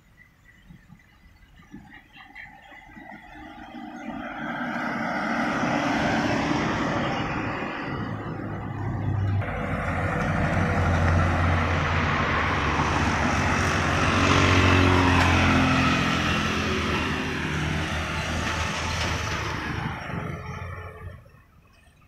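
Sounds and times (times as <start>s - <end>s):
cars passing close by: 0.0s - 22.0s.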